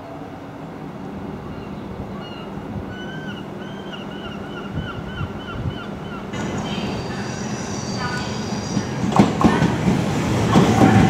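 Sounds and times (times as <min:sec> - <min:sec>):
train rolling low rumble: 0:00.0 - 0:11.0.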